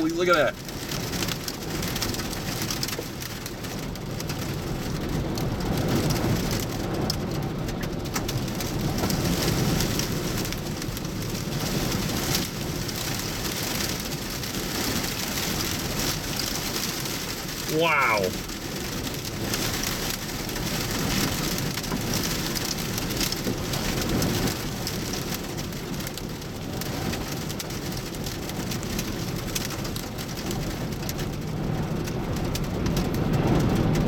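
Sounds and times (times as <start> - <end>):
heavy rain pelting a vehicle: 0.0 - 34.0.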